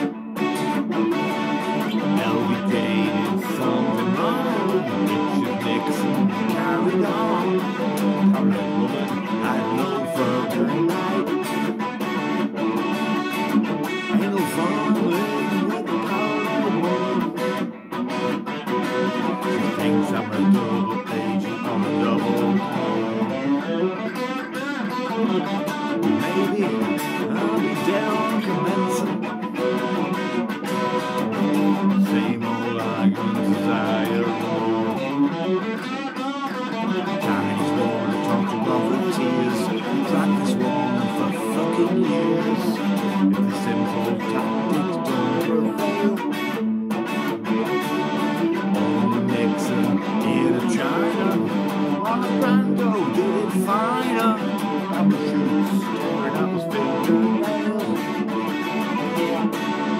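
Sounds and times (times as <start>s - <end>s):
electric guitar strumming chords: 0.0s - 59.9s.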